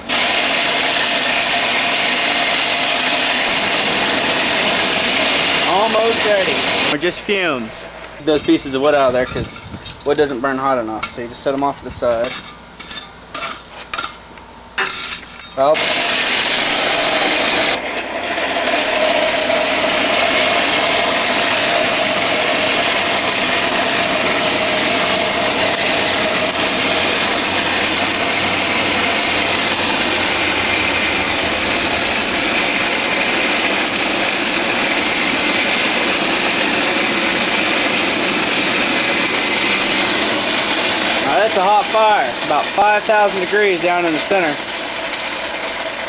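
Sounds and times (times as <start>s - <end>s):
blower whine: 0.0s - 46.0s
forge blower whirring air: 0.0s - 46.0s.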